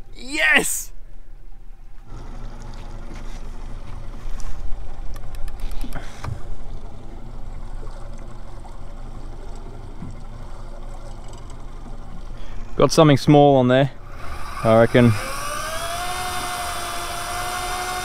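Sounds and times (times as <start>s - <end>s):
boat motor humming: 2.0s - 18.0s.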